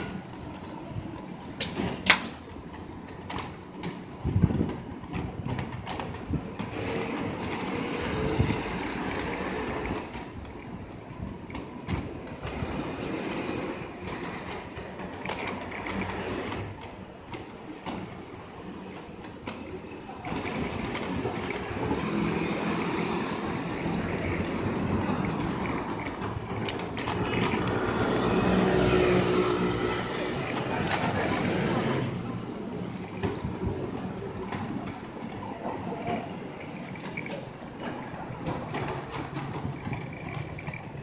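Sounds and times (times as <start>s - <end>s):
traffic: 0.0s - 41.0s.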